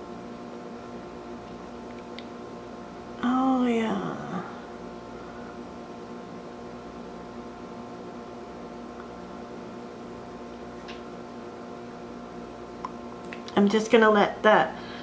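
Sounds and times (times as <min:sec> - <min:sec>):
electrical background hum: 0:00.0 - 0:15.0.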